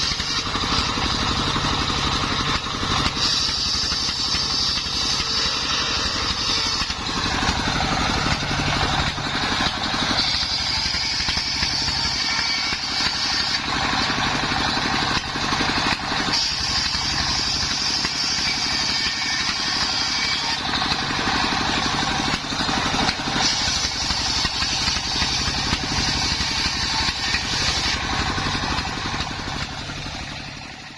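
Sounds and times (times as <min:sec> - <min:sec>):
engine running: 0:00.0 - 0:30.9
saw blade whining through wood: 0:00.0 - 0:30.9.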